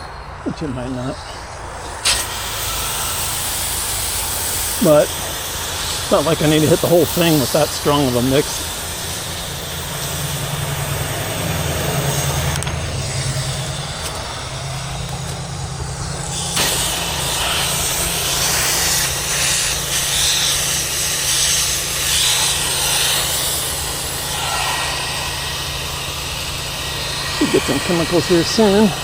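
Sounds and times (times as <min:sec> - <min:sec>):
pressure washer engine running: 0:00.0 - 0:29.0
water spray hissing: 0:01.2 - 0:29.0.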